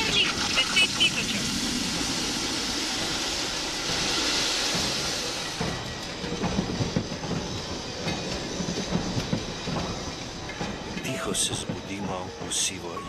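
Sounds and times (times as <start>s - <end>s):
train rushing hiss: 0.0s - 13.0s.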